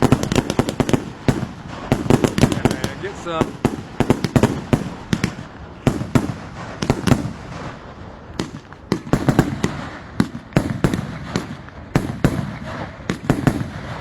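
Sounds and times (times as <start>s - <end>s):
fireworks banging: 0.0s - 14.0s
fireworks crackling: 0.0s - 14.0s.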